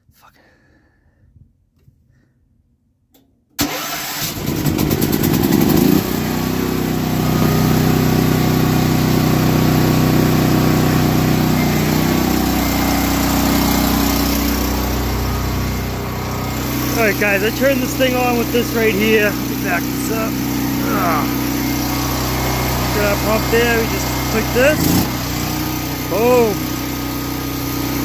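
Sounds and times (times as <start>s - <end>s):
small gasoline engine starting and running: 3.6s - 28.0s.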